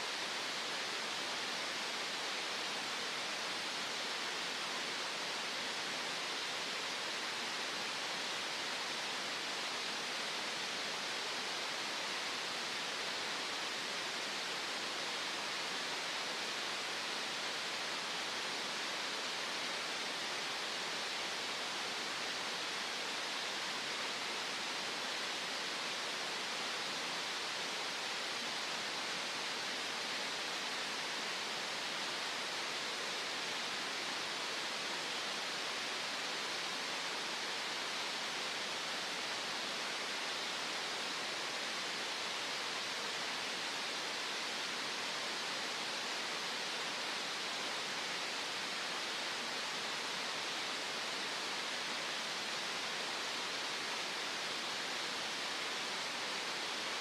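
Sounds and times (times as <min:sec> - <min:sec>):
steady synthetic noise hiss: 0:00.0 - 0:57.0.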